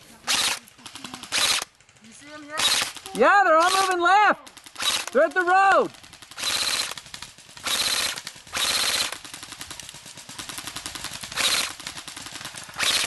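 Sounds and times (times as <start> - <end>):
airsoft rifle full-auto bursts: 0.2 - 13.0.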